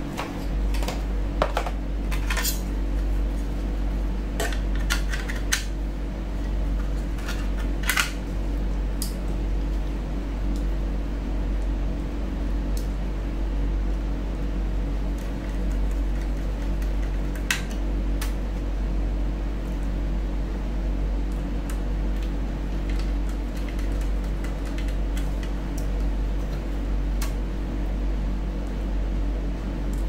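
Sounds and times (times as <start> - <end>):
fan humming: 0.0 - 30.0.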